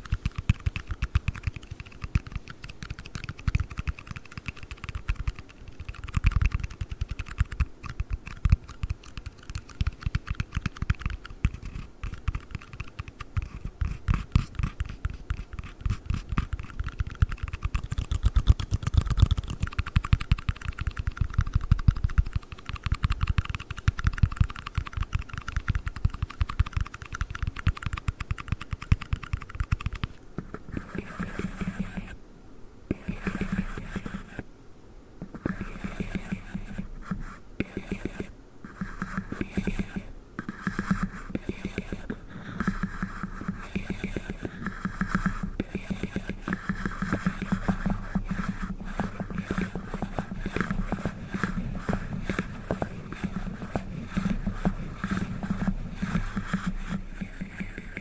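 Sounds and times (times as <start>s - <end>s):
fast tapping on a box: 0.0s - 30.1s, 35.2s - 58.0s.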